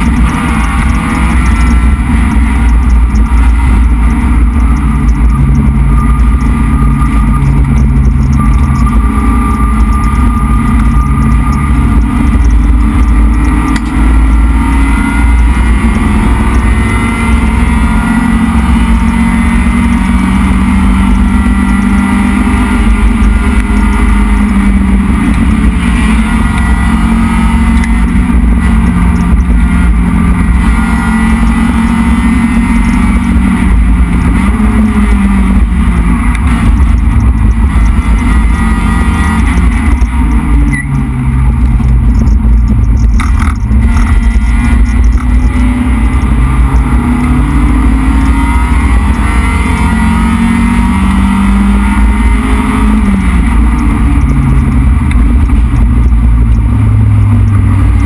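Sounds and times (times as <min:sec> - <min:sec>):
race car engine at high revs: 0:00.0 - 0:58.0
road and wind rumble: 0:00.0 - 0:58.0.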